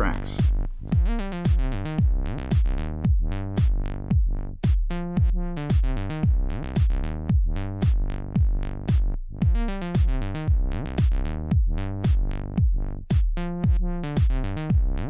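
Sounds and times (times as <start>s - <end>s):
electronic music with drum-machine beat: 0.0s - 15.0s.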